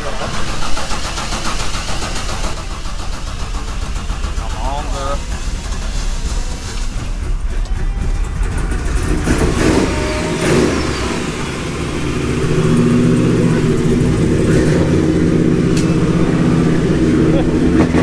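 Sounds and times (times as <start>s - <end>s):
pickup engine revving: 0.0s - 18.0s.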